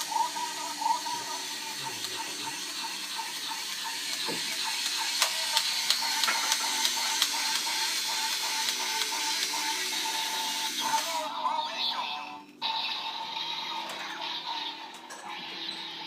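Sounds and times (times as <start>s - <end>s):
toy pulsing beep: 0.0s - 16.0s.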